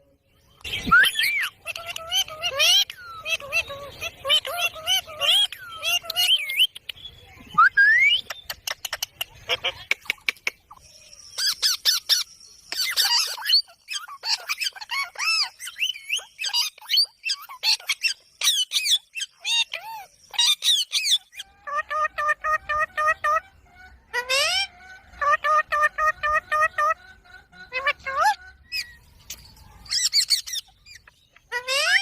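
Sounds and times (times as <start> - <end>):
parrot squawking and chirping: 0.6 - 6.8, 8.0 - 32.0.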